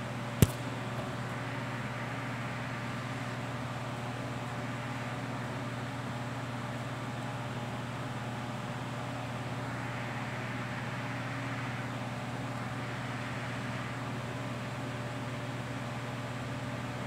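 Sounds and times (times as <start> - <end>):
room noise hiss: 0.0 - 17.0
steady low hum: 0.0 - 17.0.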